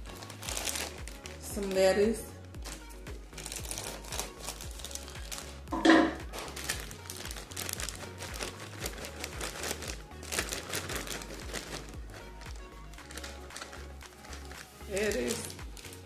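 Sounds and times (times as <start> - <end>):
background music: 0.0 - 16.0
plastic bag crinkling: 0.0 - 16.0.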